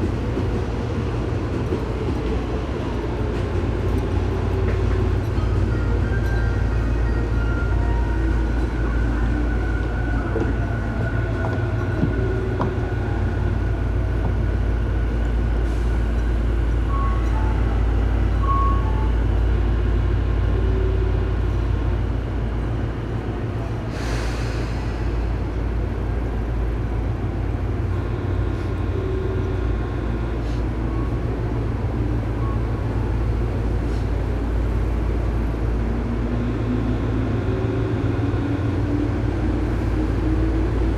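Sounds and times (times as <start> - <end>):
train low hum with whine: 0.0 - 40.9.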